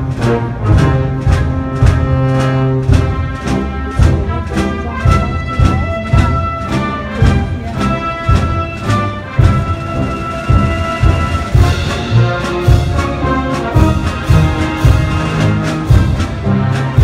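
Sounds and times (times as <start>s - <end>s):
brass band playing a march: 0.0s - 17.0s
steady drum beat: 0.0s - 17.0s.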